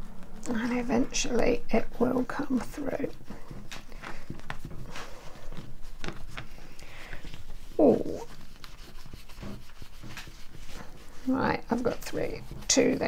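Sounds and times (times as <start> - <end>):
paper scratching and rubbing: 0.0 - 13.0.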